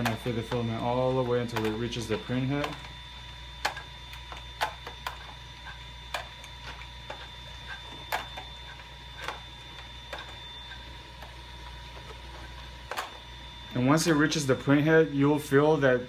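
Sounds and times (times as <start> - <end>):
faint whine and hum: 0.0 - 16.0.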